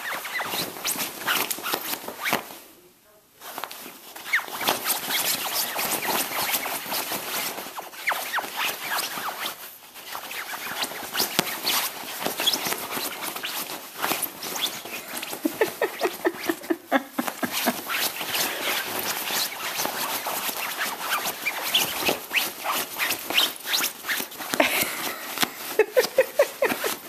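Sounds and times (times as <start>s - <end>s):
puppy claws scratching fabric: 0.0s - 2.6s, 3.4s - 27.0s.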